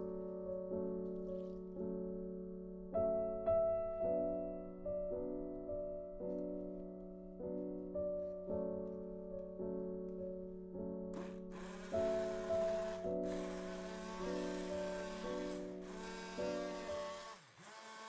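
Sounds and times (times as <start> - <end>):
soft piano chords: 0.0 - 17.3.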